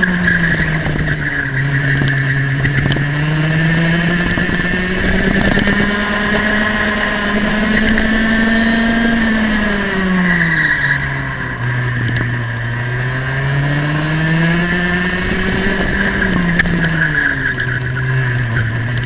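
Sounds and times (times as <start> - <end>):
two-stroke kart engine revving: 0.0 - 19.0.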